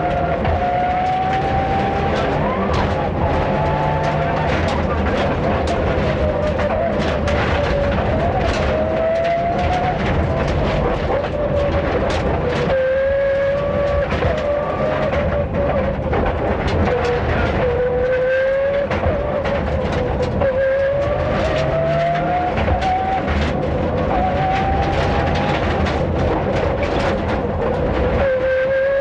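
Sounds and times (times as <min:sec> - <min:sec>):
gravel clattering against car: 0:00.0 - 0:29.0
rally car engine revving: 0:00.0 - 0:29.0.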